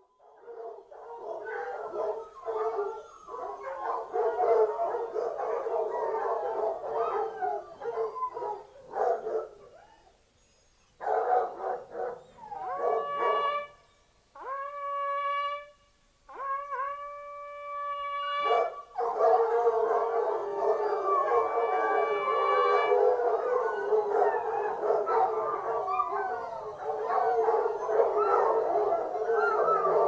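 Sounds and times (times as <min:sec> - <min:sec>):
hounds howling and baying: 0:00.0 - 0:10.2, 0:11.0 - 0:13.7, 0:18.3 - 0:30.0.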